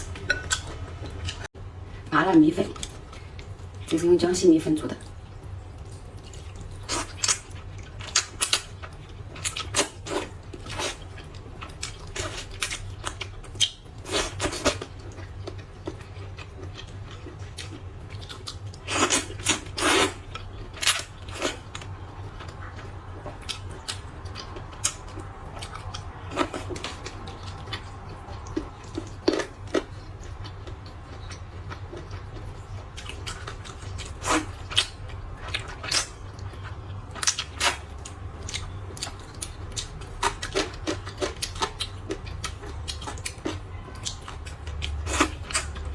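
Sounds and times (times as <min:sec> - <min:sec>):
chewing and slurping: 0:05.8 - 0:45.9.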